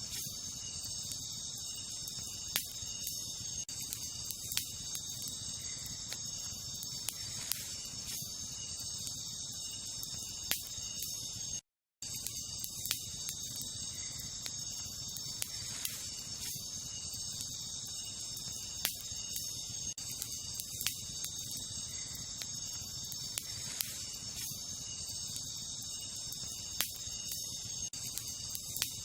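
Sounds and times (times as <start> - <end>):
campfire crackling and popping: 0.0 - 29.0
night insects chorus: 0.0 - 29.0.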